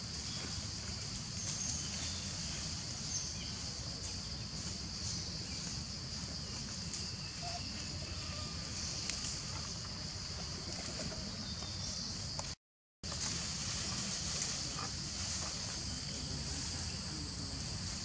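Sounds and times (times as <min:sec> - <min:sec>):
forest insects droning: 0:00.0 - 0:18.0.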